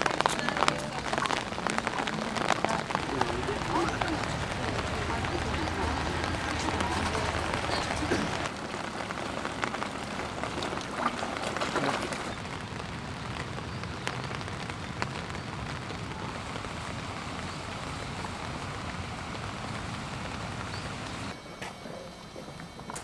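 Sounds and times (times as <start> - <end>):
light rain falling: 0.0 - 21.4.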